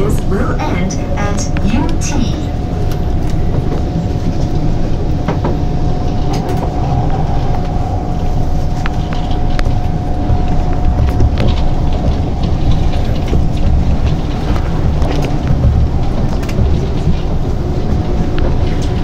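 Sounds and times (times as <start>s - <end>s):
thin steady whine: 0.0s - 19.0s
train wheels rumbling on track: 0.0s - 19.0s.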